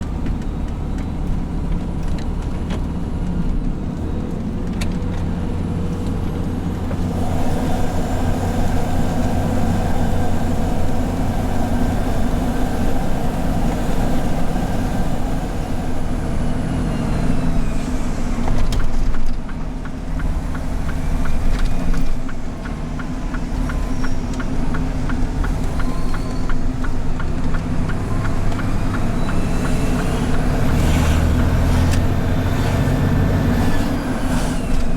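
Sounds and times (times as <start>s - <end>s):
truck diesel engine running: 0.0s - 34.9s.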